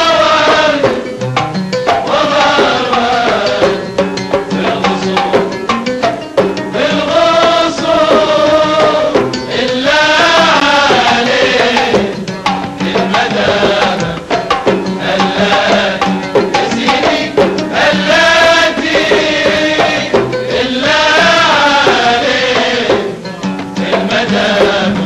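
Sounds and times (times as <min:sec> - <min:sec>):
men singing: 0:00.0 - 0:01.2, 0:01.8 - 0:25.0
frame drums beating: 0:00.0 - 0:25.0.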